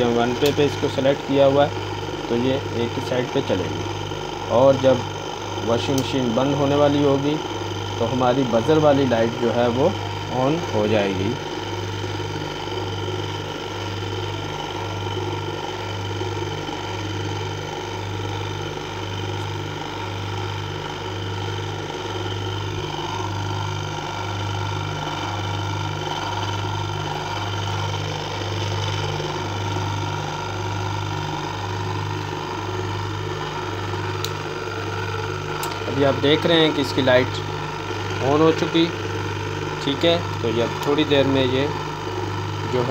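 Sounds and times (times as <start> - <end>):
electric motor humming: 0.0 - 42.9.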